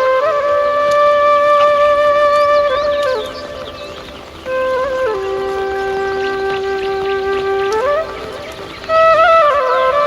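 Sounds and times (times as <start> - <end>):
solo flute playing: 0.0 - 10.0.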